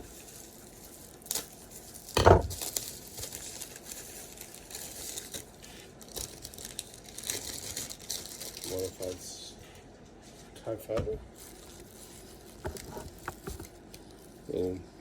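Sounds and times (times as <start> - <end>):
plastic packaging crinkling: 0.0 - 9.3, 11.4 - 15.0.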